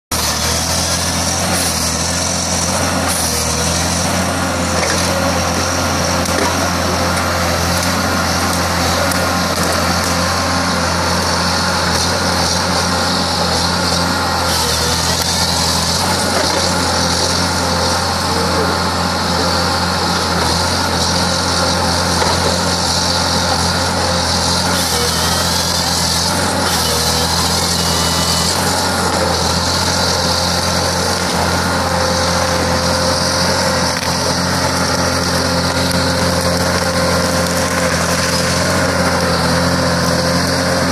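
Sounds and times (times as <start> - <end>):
diesel engine running under load: 0.1 - 40.9.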